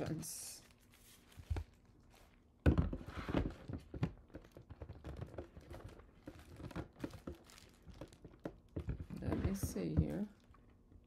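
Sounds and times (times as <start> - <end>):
plastic wrap rustling: 0.0 - 10.8.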